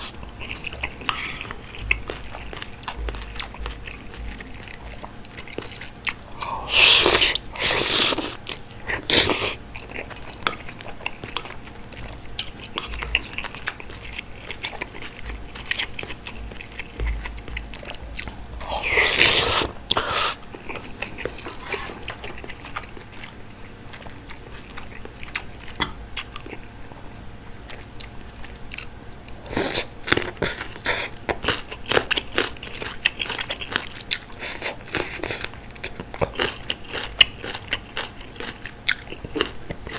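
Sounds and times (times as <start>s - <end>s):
close chewing and biting: 0.0s - 26.7s, 27.5s - 39.9s
wet chewing clicks: 0.0s - 26.7s, 27.7s - 39.9s.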